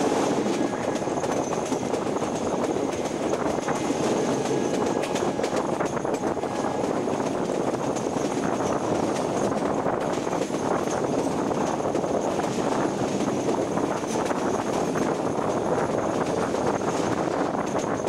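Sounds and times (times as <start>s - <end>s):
rushing air: 0.0s - 17.3s
train rolling rumble: 0.0s - 18.0s.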